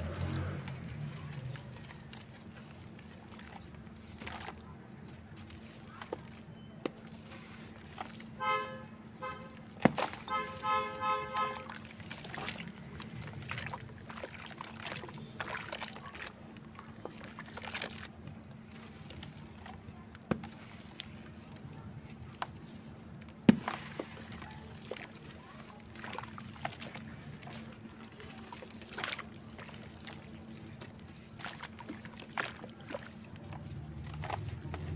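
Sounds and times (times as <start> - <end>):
hands kneading wet paste: 0.0 - 34.9
water sloshing: 0.0 - 34.9.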